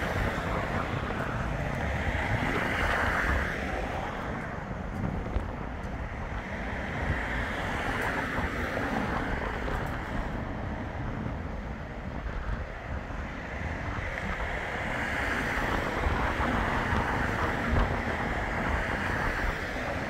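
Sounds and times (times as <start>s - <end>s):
wind gusting on microphone: 0.0s - 20.0s.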